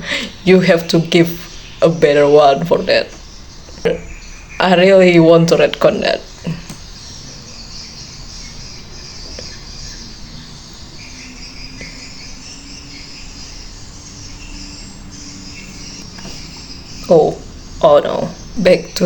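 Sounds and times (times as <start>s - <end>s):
crickets chirping: 0.0s - 19.0s
faint low hum: 0.0s - 19.0s.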